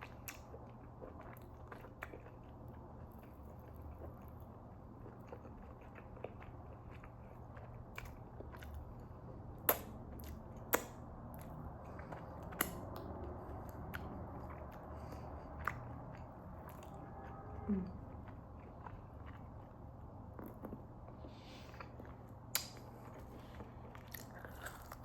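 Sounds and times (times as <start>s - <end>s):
chewing food: 0.0s - 25.0s
faint low hum: 0.0s - 25.0s.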